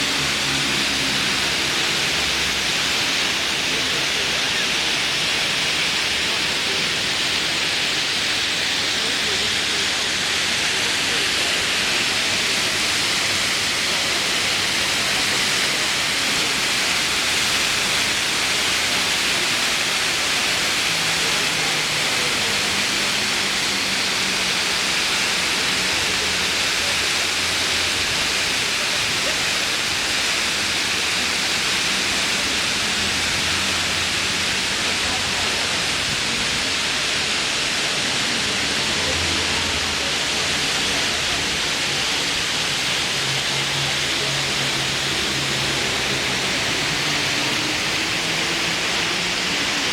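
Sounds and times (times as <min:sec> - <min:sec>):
fountain water splashing: 0:00.0 - 0:49.9.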